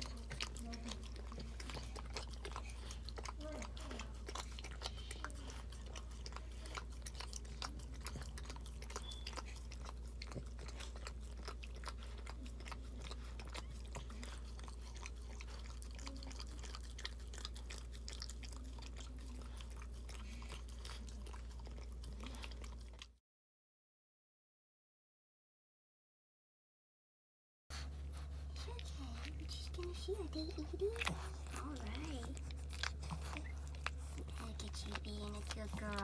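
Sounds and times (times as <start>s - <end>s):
steady low hum: 0.0s - 23.0s, 27.7s - 36.0s
dog licking wet smacking: 0.0s - 23.1s, 28.2s - 36.0s.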